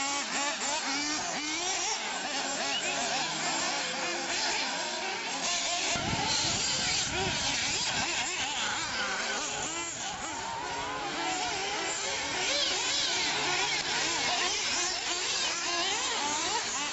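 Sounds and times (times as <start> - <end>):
rc cars engines whining: 0.0 - 16.9.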